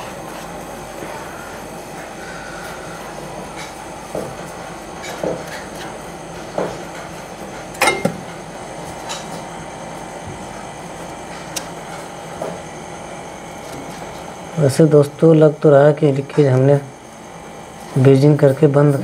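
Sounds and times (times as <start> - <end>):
compressor running: 0.0 - 19.0.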